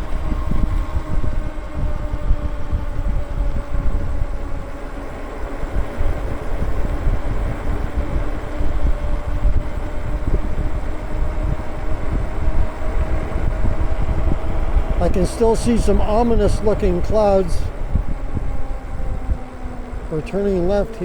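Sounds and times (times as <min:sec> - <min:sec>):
electric bike hum: 0:00.0 - 0:21.0
wind buffeting microphone: 0:00.0 - 0:21.0.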